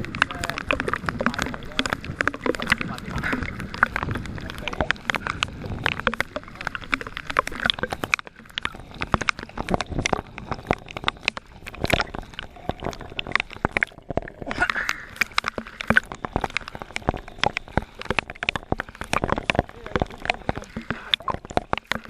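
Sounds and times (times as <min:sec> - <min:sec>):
seawater sloshing and splashing: 0:00.0 - 0:22.0
sharp knocks and clicks: 0:00.0 - 0:22.0.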